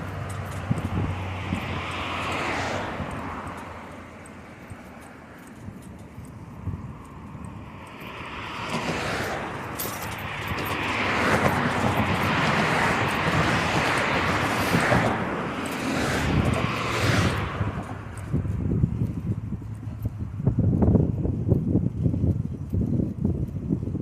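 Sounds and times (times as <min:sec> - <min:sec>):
vehicle passing close by: 0:00.0 - 0:21.0.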